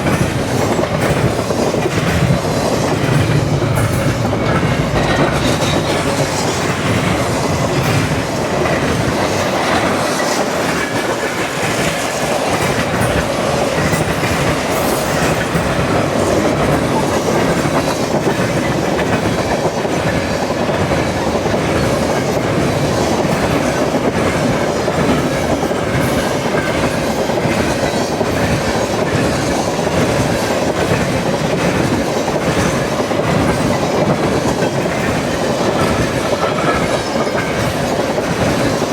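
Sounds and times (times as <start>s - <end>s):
freight train rumble: 0.0s - 38.9s
wheels clickety-clack on rails: 0.0s - 38.9s.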